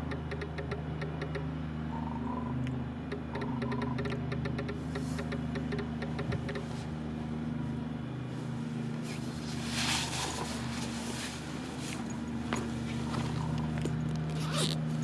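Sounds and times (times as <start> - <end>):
machinery engine humming: 0.0 - 15.0.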